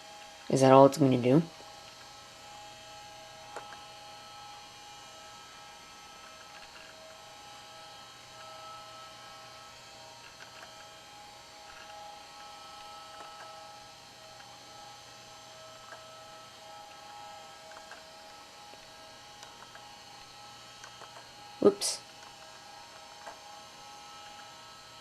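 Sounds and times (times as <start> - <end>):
electrical hum with high whine: 0.0 - 25.0.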